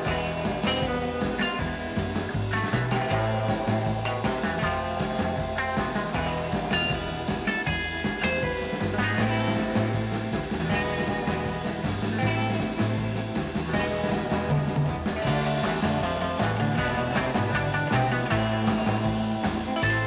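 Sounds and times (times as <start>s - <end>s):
rock music with guitar and bass: 0.0s - 20.0s.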